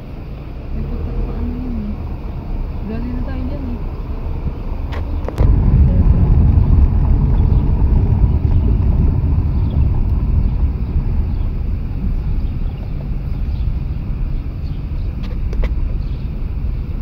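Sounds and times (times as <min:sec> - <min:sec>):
car driving rumble: 0:00.0 - 0:17.0
wind on microphone: 0:00.8 - 0:17.0.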